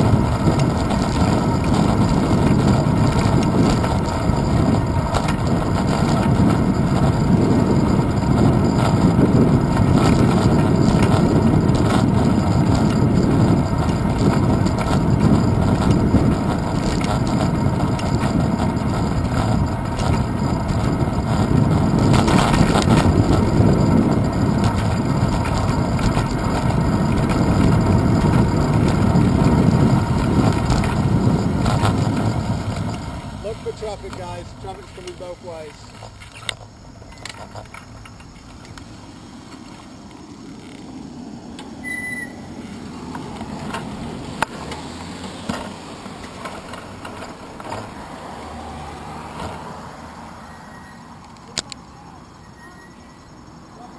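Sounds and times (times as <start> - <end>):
wind and road rumble: 0.0 - 53.9.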